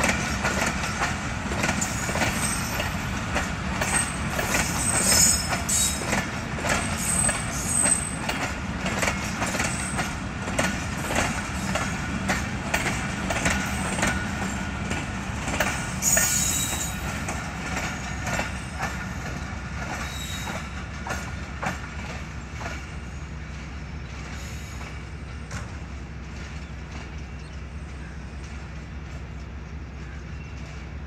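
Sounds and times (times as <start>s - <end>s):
low train rumble: 0.0s - 31.0s
train wheel squeal: 0.0s - 31.0s
train wheels clacking over rail joints: 0.0s - 31.0s.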